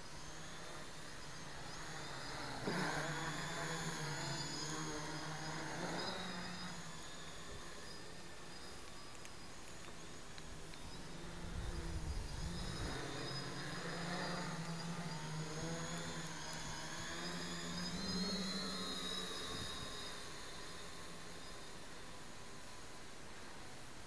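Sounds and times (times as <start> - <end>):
drone propeller hum: 0.0 - 24.0
thin high motor whine: 0.0 - 24.0.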